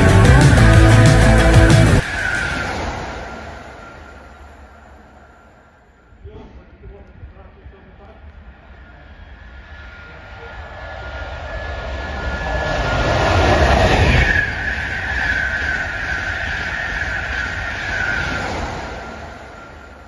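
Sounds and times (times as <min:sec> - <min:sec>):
electric train passing: 0:00.0 - 0:06.2, 0:08.4 - 0:20.0.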